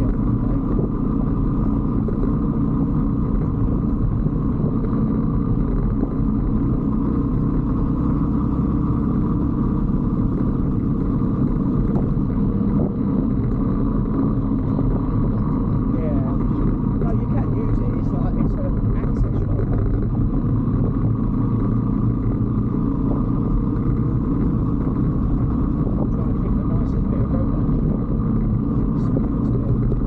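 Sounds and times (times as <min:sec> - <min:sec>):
motorbike engine running: 0:00.0 - 0:30.0
wind and road noise: 0:00.0 - 0:30.0.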